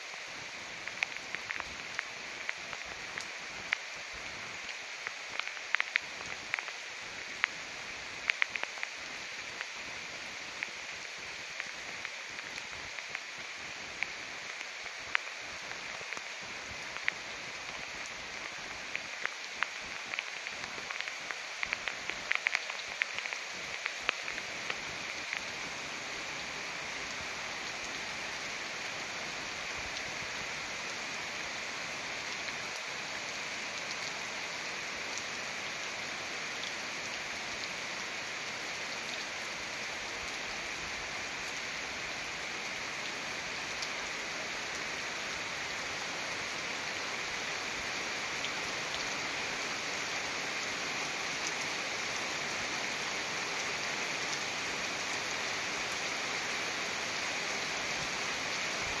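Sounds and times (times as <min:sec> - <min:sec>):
steady rain on foliage and paving: 0:00.0 - 0:59.0.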